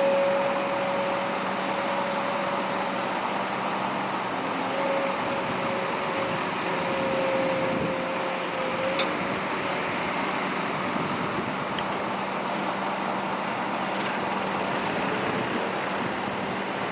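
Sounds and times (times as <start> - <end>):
heavy diesel machinery running: 0.0 - 16.9.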